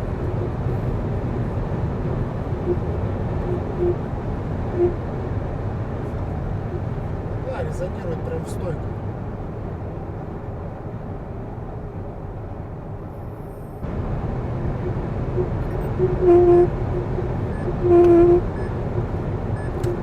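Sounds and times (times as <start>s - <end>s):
wind and road noise in car: 0.0s - 20.0s.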